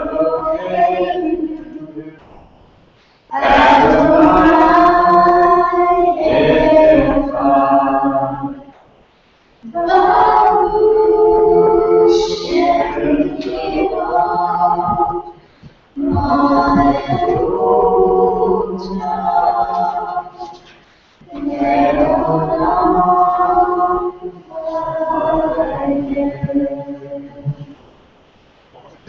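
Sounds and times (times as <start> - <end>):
group singing a cappella: 0.0 - 2.2, 3.3 - 8.7, 9.6 - 27.8.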